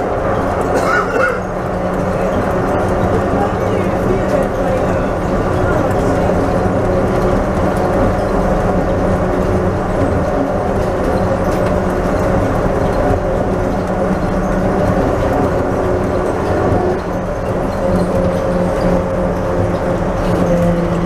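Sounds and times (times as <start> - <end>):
train running in a tunnel: 0.0 - 21.0.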